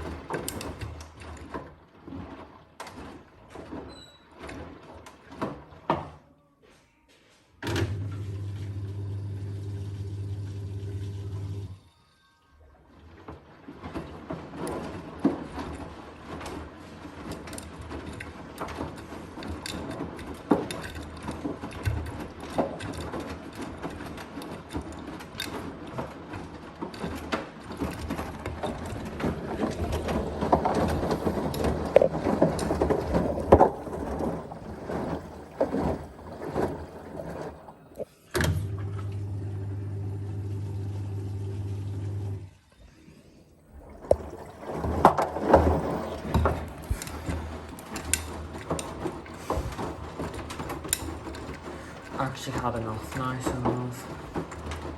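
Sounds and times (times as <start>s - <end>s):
washing machine water sloshing: 0.0s - 6.1s, 7.8s - 11.8s, 12.7s - 54.9s.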